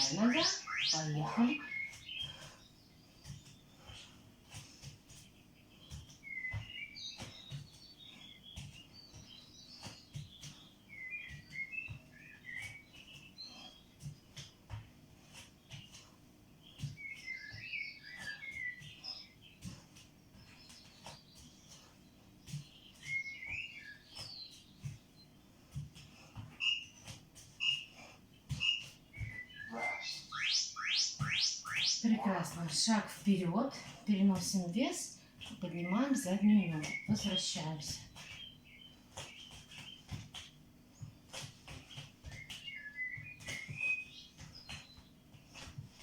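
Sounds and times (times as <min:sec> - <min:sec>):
bird chirping and twittering: 0:00.0 - 0:03.9, 0:05.2 - 0:14.0, 0:16.6 - 0:25.4, 0:26.6 - 0:40.3, 0:40.9 - 0:45.7.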